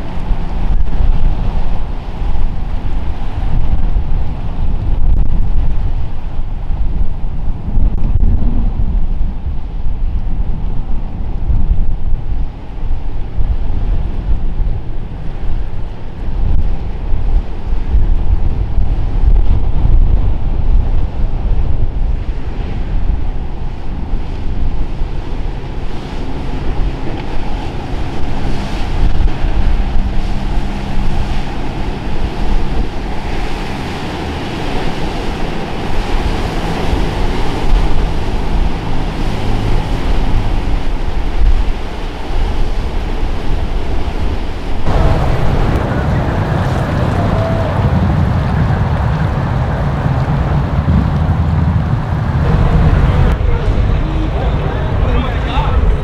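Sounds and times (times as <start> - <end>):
boat engines droning: 0.0 - 56.0
boat hull crashing through waves: 0.0 - 56.0
breaking surf: 0.0 - 56.0
low rumble of boat cruising: 0.0 - 56.0
wind buffeting microphone: 0.0 - 56.0.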